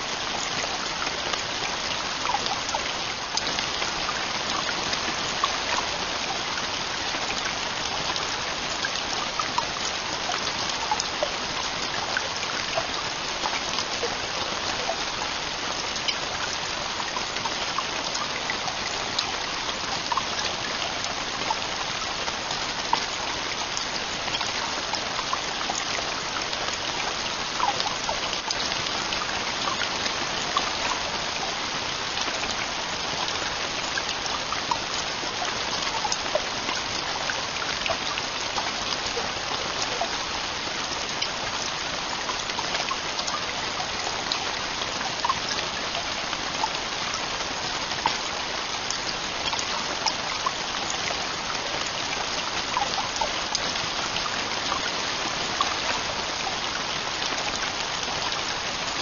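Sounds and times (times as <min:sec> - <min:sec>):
heavy rain on tent roof: 0:00.0 - 0:59.0.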